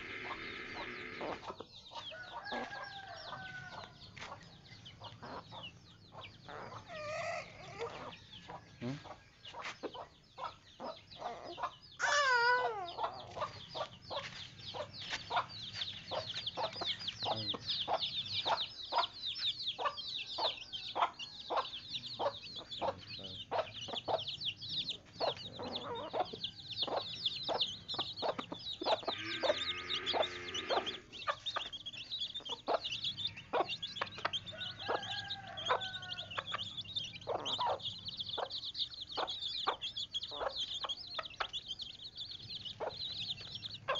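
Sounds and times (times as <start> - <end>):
chickens clucking: 0.0 - 43.9
chicks peeping: 0.0 - 43.9.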